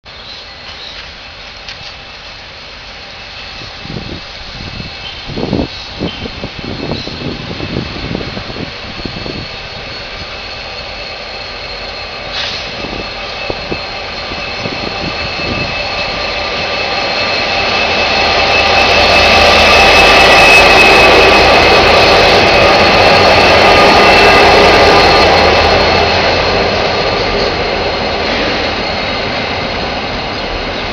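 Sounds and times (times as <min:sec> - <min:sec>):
train passing: 0:00.1 - 0:30.9
steady ringing tones: 0:00.3 - 0:30.9.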